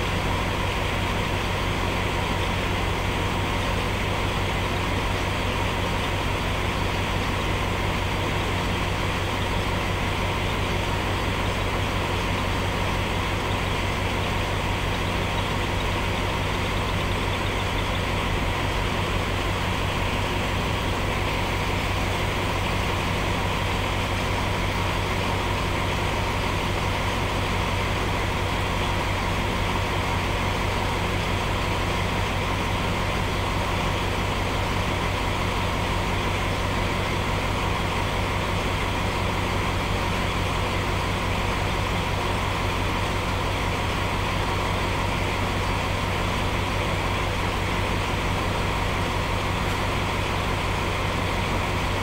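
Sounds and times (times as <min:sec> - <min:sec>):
diesel train engine idling: 0:00.0 - 0:52.0.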